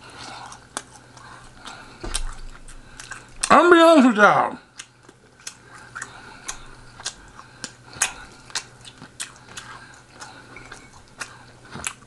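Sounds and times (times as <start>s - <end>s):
person chewing food: 0.0s - 3.6s, 4.6s - 12.0s.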